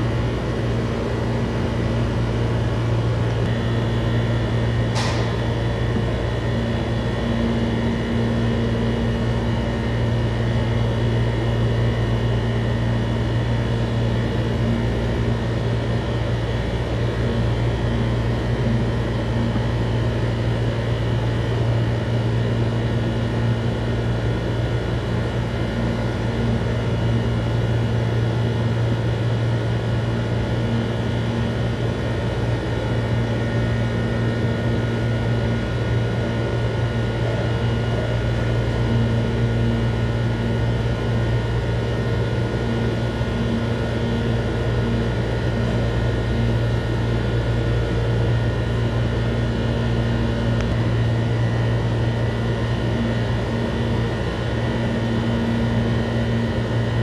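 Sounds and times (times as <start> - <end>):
machine hum with high whine: 0.0 - 57.0.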